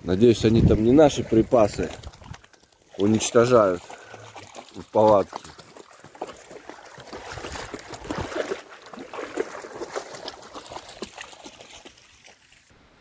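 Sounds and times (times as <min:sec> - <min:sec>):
river water lapping at shore: 0:00.8 - 0:12.7.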